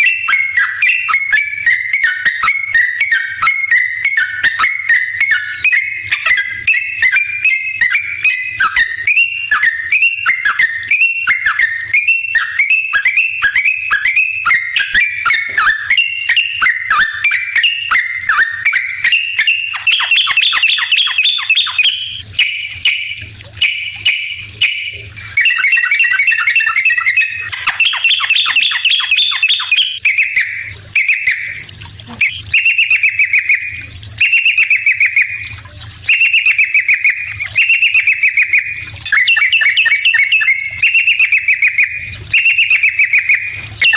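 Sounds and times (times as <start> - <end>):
bulbul singing bubbly whistles: 0.0 - 43.9.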